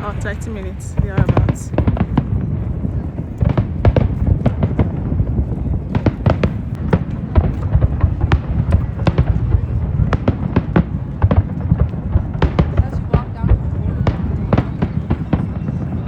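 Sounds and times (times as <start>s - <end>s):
fireworks bangs and cracks: 0.0s - 16.0s
low rumble of fireworks bursts: 0.0s - 16.0s.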